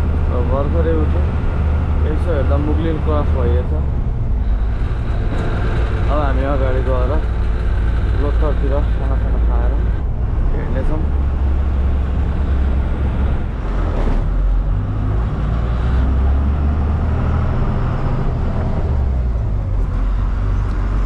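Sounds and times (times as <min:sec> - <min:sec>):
road noise: 0:00.0 - 0:21.0
truck diesel engine droning: 0:00.0 - 0:21.0.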